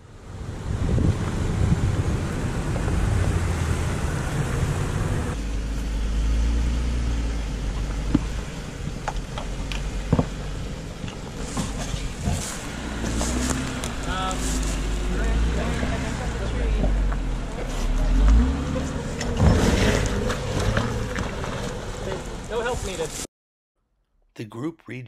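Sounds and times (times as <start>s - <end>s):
off-road vehicle engines rumbling: 0.0s - 23.3s.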